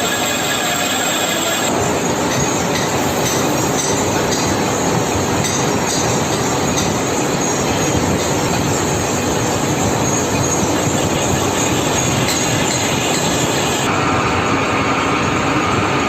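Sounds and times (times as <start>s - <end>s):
lathe machining metal: 0.0s - 14.5s.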